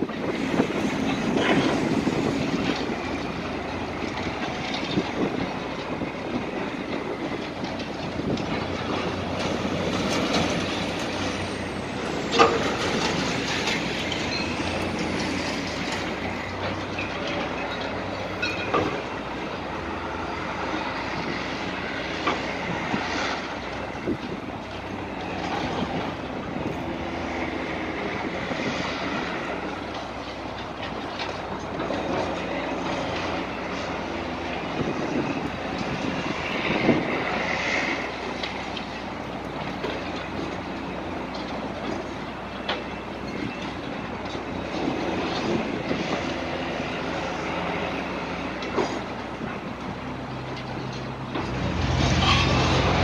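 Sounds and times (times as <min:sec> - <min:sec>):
clanks of concrete and steel: 0:00.0 - 0:19.6, 0:27.6 - 0:53.0
road traffic: 0:00.0 - 0:53.0.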